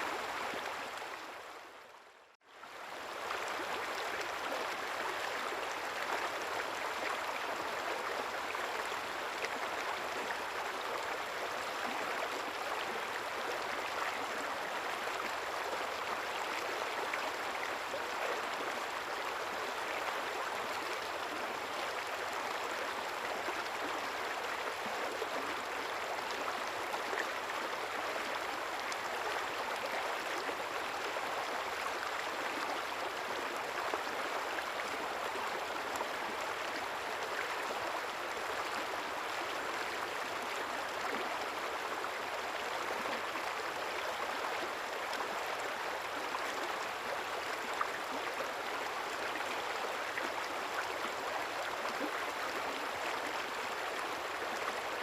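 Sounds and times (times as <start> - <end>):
river babbling: 0.0 - 55.0.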